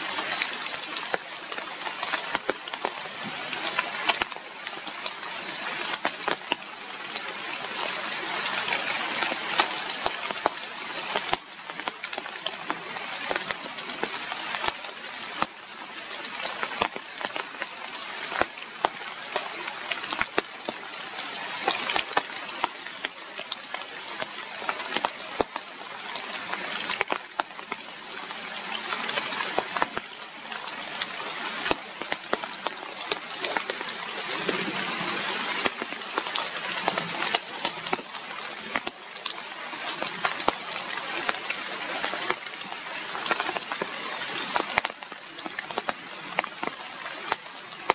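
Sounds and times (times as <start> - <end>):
rain falling through foliage: 0.0 - 47.9
sharp taps of raindrops: 0.0 - 47.9.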